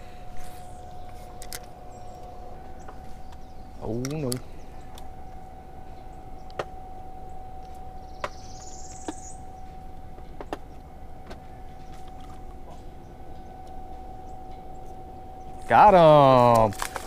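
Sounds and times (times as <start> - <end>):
high rising chirp: 0.0 - 16.4
electric motor whine: 0.0 - 17.0.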